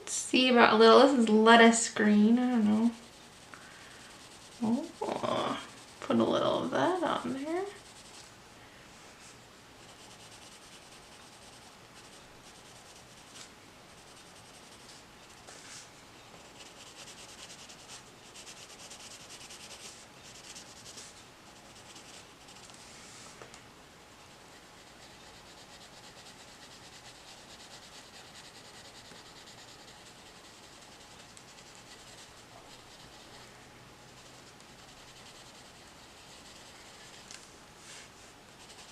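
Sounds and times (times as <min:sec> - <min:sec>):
coloured pencil shading on paper: 0:01.0 - 0:08.3, 0:09.8 - 0:15.6, 0:16.4 - 0:22.8, 0:24.2 - 0:37.2, 0:38.5 - 0:38.9.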